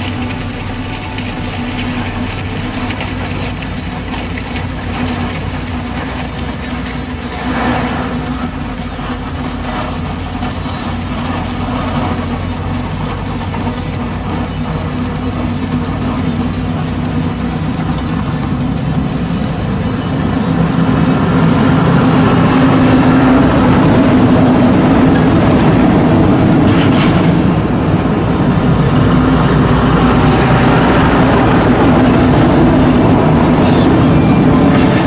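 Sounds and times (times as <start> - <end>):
truck diesel engine passing: 0.0 - 35.0.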